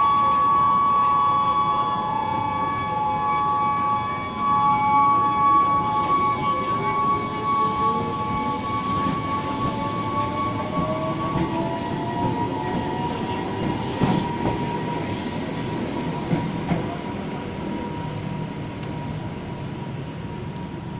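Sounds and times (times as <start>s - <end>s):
electric train whine: 0.0s - 20.9s.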